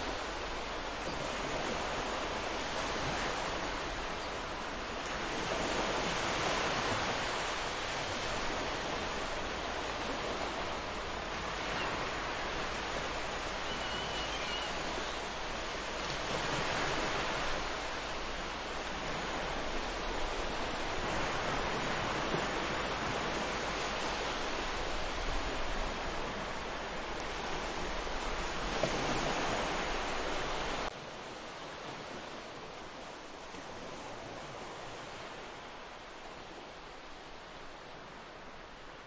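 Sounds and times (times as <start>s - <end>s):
ocean surf washing onto beach: 0.0s - 39.0s.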